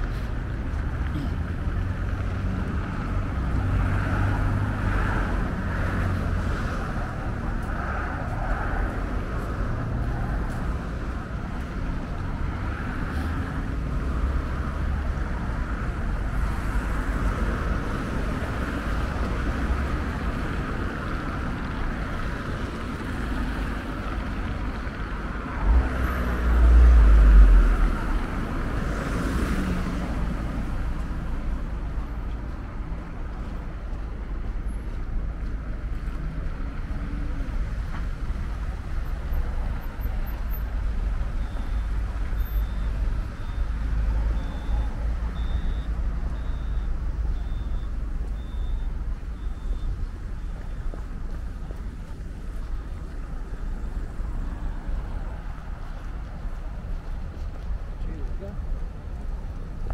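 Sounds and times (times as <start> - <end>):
steady traffic noise: 0.0 - 59.9.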